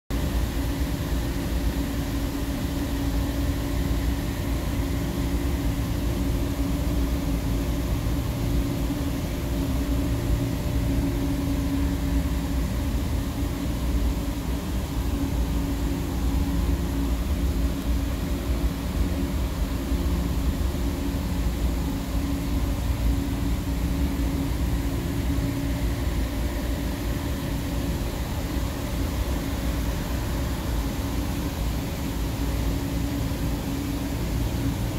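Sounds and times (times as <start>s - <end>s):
machinery hum: 0.1s - 34.9s.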